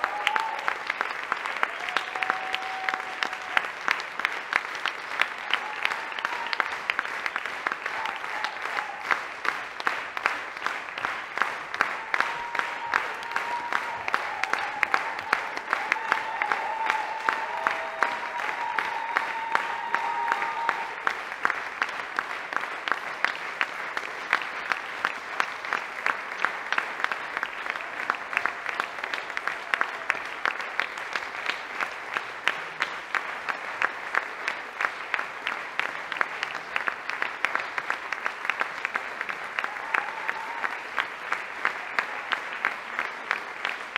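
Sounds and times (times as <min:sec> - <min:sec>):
audience clapping in rhythm: 0:00.0 - 0:43.9.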